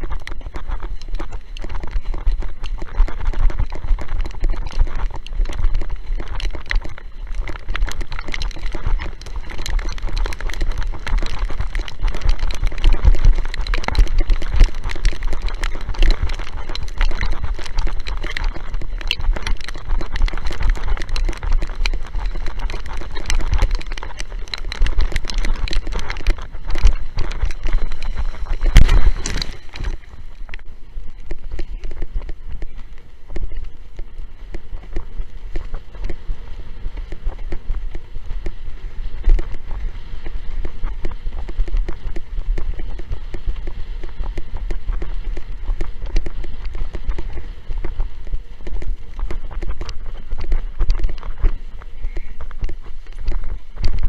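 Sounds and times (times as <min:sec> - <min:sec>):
board hull slapping water: 0:00.0 - 0:54.0
wind buffeting microphone: 0:00.0 - 0:54.0.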